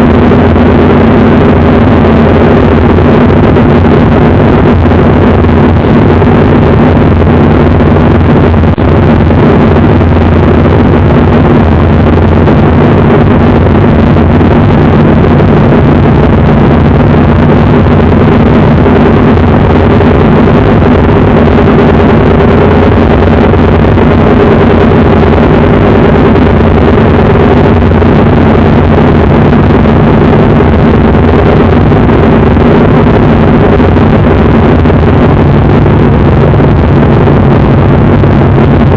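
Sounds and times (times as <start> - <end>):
race car engine running: 0.0 - 38.9.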